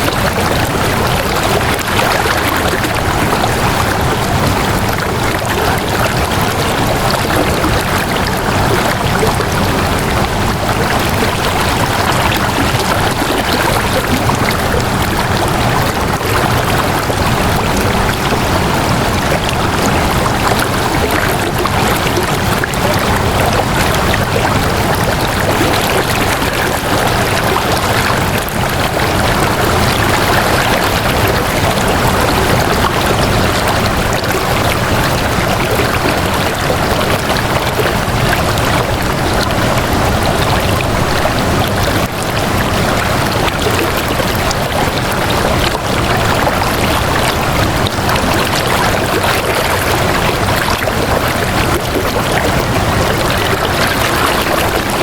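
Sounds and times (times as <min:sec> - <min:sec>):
rush of flowing water: 0:00.0 - 0:55.0.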